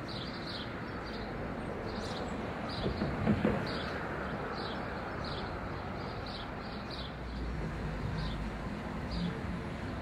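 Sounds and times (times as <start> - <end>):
bird chirping: 0.0 - 9.6.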